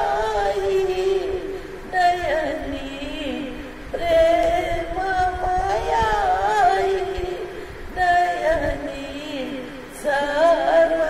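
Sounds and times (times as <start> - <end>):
woman singing a hymn: 0.0 - 11.0.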